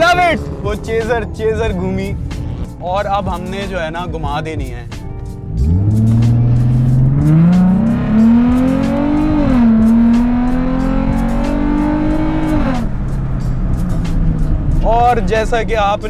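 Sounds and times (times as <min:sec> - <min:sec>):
sports car engine accelerating: 0:00.0 - 0:16.0.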